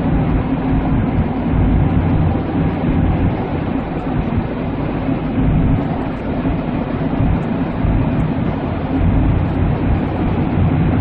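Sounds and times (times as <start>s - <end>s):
engine and road noise in cabin: 0.0s - 11.0s.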